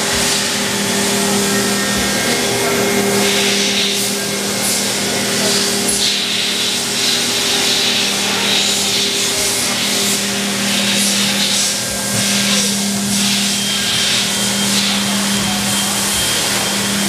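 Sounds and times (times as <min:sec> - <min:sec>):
coolant spraying hiss: 0:00.0 - 0:17.0
machine hum: 0:00.0 - 0:17.0.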